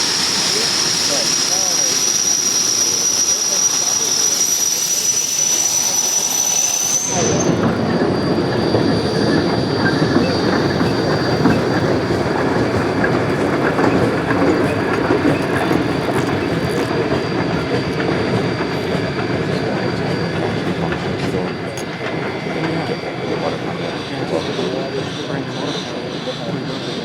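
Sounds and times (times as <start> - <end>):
train wheels clattering on rails: 0.1 - 27.0.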